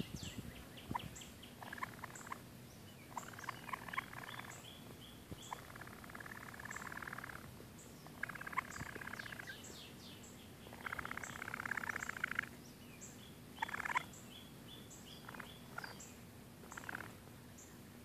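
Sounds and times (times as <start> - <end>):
baby raccoon chittering: 0.0 - 9.7, 10.6 - 12.6, 13.6 - 14.2, 14.9 - 17.2
faint high bird chirps: 0.0 - 17.8.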